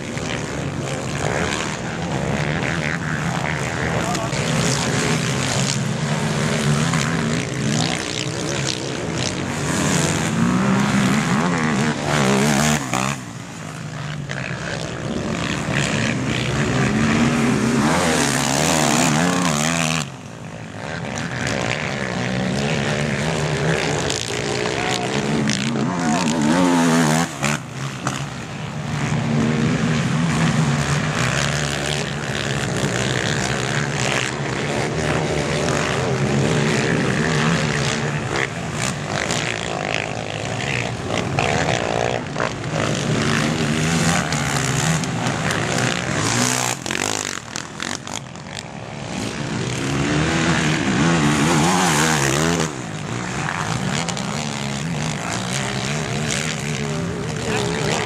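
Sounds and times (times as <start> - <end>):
quad bike engines revving hard: 0.0 - 58.0.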